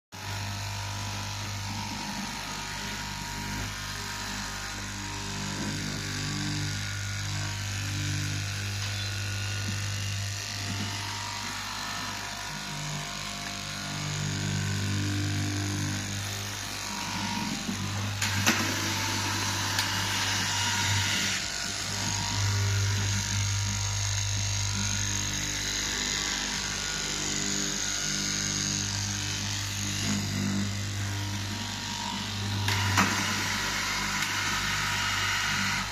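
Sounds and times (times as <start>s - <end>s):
small electric motor humming: 0.2s - 35.9s.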